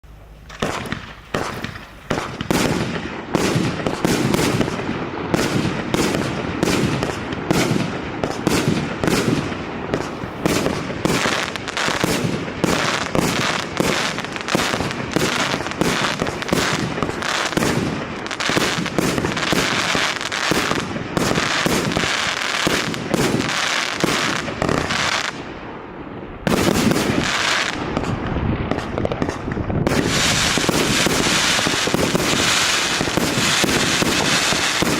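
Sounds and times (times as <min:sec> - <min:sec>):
fireworks cake firing sharp bangs: 0:00.5 - 0:25.7, 0:26.4 - 0:34.9.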